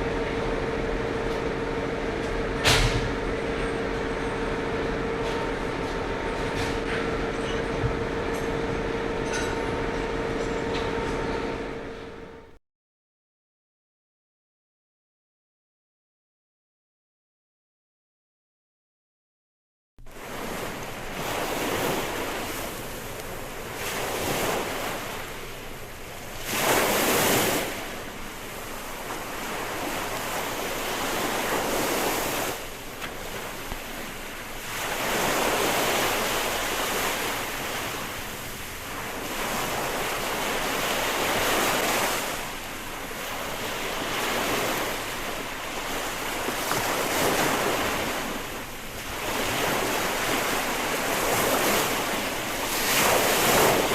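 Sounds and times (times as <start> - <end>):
ocean waves washing in: 0.0 - 12.4, 20.1 - 53.9.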